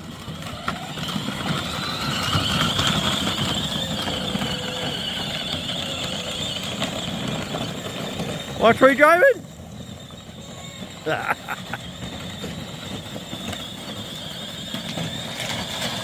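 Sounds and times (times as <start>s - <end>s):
electric toy car motor whining: 0.0s - 16.0s
tyres rolling: 0.0s - 16.0s.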